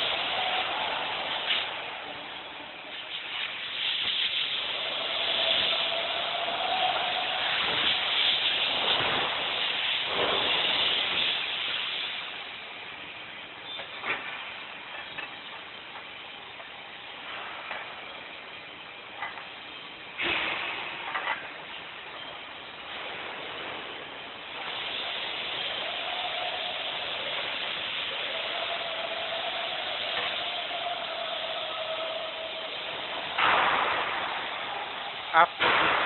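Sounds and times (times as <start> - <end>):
machine hum: 0.0 - 13.8, 14.4 - 36.0
machine hissing: 0.0 - 36.0.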